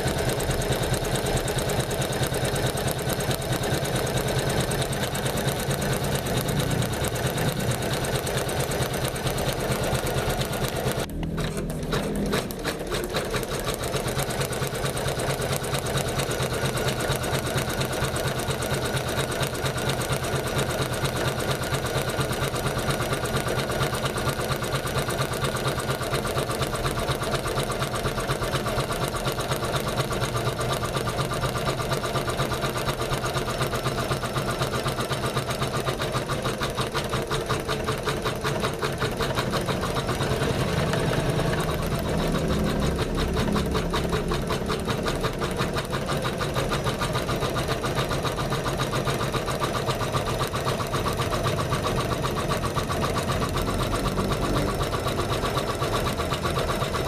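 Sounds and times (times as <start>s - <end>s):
embroidery machine needle running: 0.0s - 57.0s.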